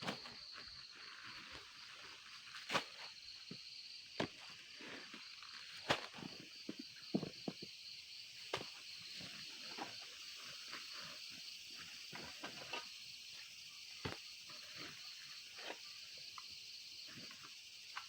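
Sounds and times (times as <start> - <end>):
insect chirring: 0.0 - 18.0.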